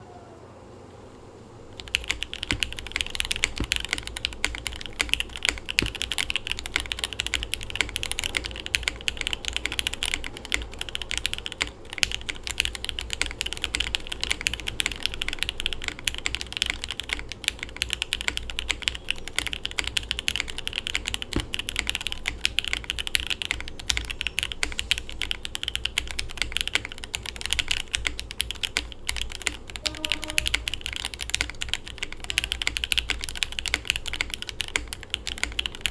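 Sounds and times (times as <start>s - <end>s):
fast mechanical keyboard typing: 1.7s - 35.9s.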